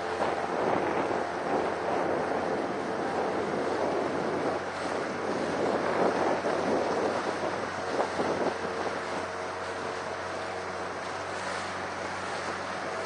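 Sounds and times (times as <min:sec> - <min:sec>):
faint engine hum: 0:00.0 - 0:13.0
water splashing against boat hull: 0:00.0 - 0:13.0
wind buffeting microphone: 0:00.0 - 0:13.0.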